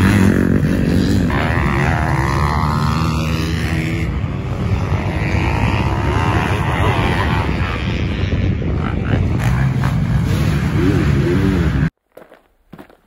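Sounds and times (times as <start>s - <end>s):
dirt bike engines revving: 0.0s - 11.9s.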